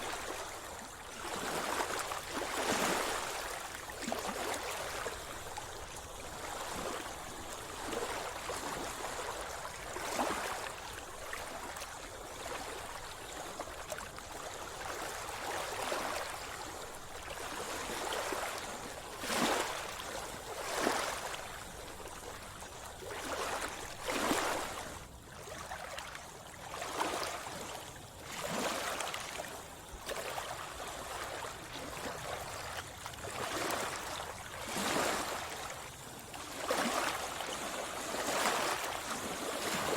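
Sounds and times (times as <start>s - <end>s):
sea water sloshing and splashing: 0.0s - 39.9s.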